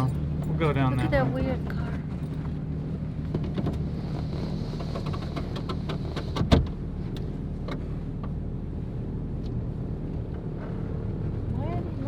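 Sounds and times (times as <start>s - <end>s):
vehicle rolling on dirt trail: 0.0s - 12.0s.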